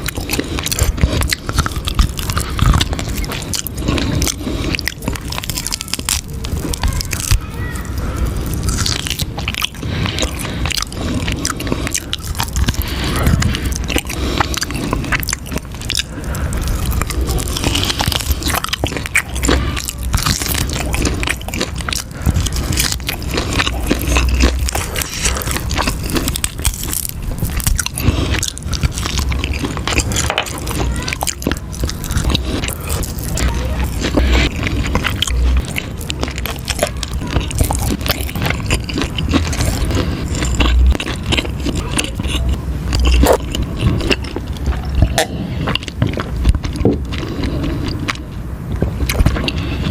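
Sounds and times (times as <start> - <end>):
chewing crunchy food: 0.0 - 49.9.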